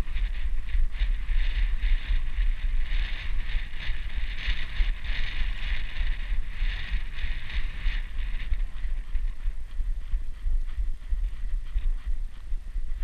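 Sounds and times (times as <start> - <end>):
buffeting rumble: 0.0 - 13.0
rhythmic pulsing hiss: 0.0 - 13.0.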